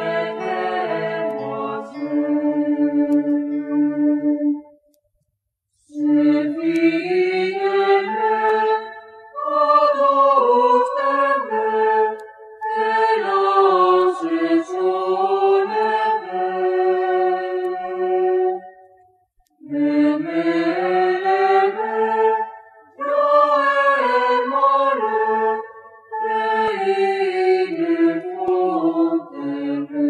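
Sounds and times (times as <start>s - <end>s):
voices singing chant-like phrases: 0.0s - 4.6s, 5.9s - 18.7s, 19.6s - 30.0s.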